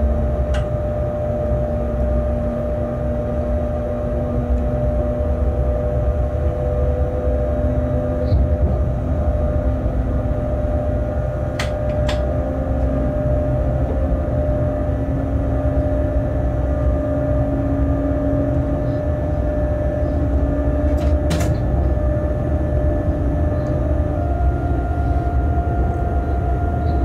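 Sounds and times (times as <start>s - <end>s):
locomotive rumble: 0.0s - 27.0s
running gear whine: 0.0s - 27.0s.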